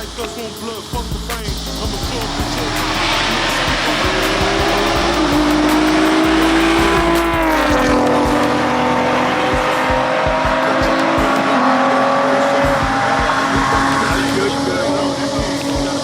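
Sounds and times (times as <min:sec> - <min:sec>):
car engine at high revs: 0:00.0 - 0:16.0
loud hiss of noise: 0:00.0 - 0:16.0.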